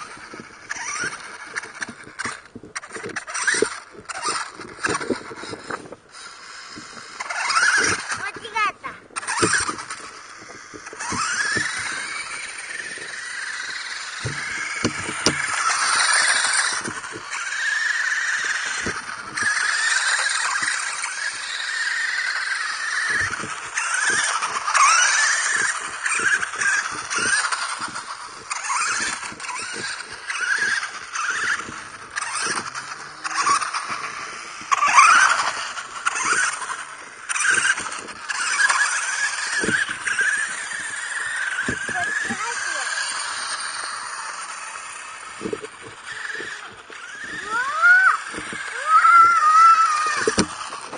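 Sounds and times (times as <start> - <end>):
small electric motor whining: 0.0 - 50.9
toy car knocking on concrete: 9.2 - 50.9.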